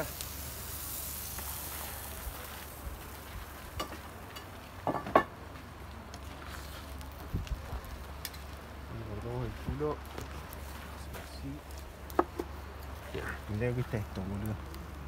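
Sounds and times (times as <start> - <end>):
meat sizzling on grill: 0.0 - 15.0.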